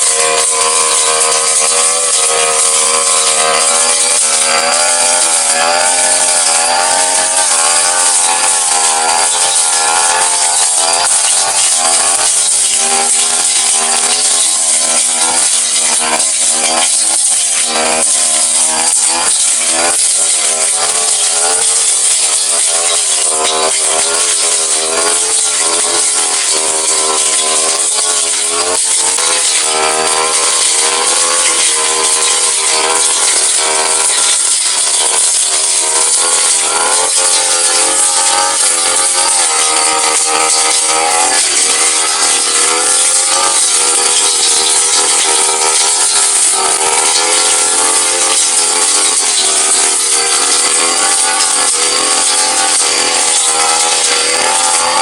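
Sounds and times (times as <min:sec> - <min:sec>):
blade cutting grass: 0:00.0 - 0:55.0
brush cutter engine at high revs: 0:00.0 - 0:55.0.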